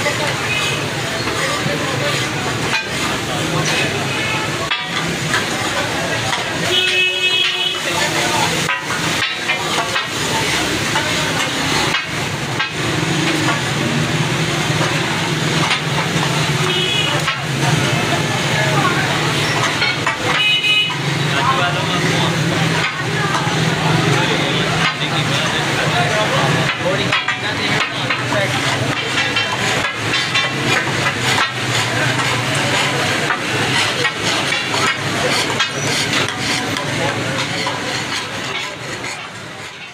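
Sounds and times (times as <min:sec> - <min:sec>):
food sizzling: 0:00.0 - 0:39.9
frying hiss: 0:00.0 - 0:39.9
metal spatula scraping griddle: 0:00.0 - 0:39.9
street traffic: 0:00.0 - 0:39.9.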